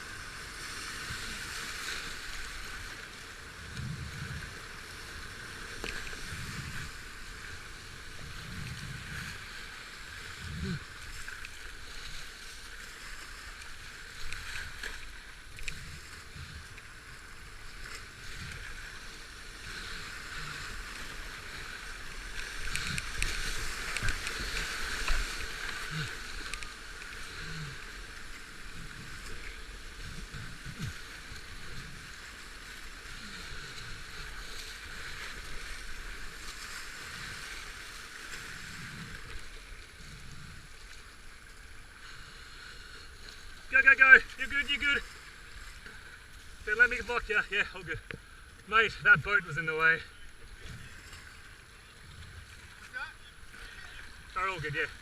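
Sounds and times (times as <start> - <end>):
paddle splashes: 0.0 - 55.0
rushing river water: 0.0 - 55.0.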